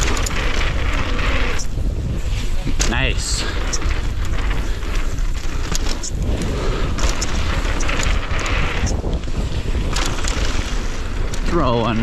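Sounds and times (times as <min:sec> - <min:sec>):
bike clattering: 0:00.0 - 0:12.0
wind buffeting microphone: 0:00.0 - 0:12.0.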